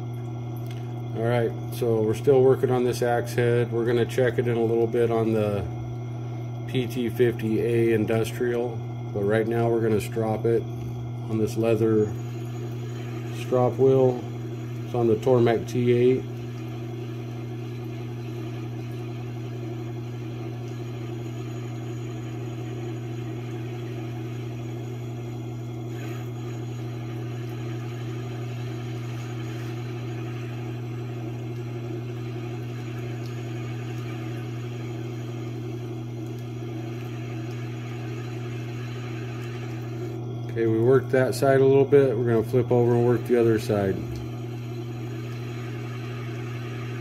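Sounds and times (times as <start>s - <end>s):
sharpener motor hum: 0.0s - 47.0s.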